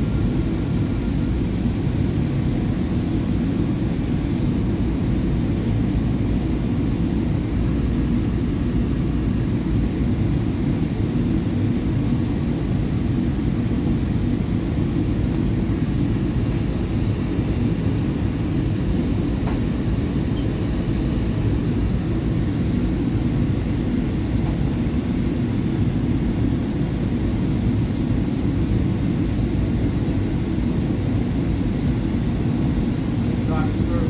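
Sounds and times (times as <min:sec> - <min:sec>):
subway train rumble: 0:00.0 - 0:34.0.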